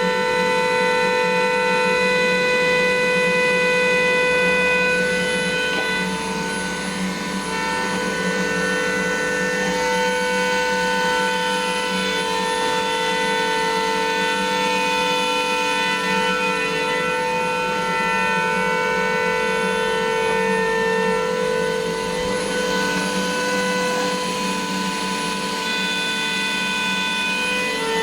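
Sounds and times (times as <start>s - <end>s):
machine spindle whine: 0.1s - 28.0s.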